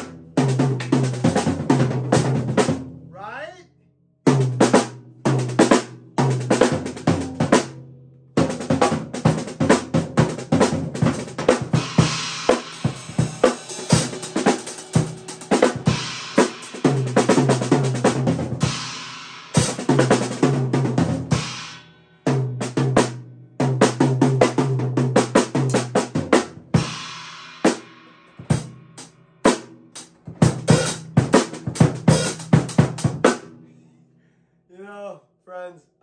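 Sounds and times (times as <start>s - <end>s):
drum kit played with sticks: 0.0s - 3.5s, 4.3s - 34.0s.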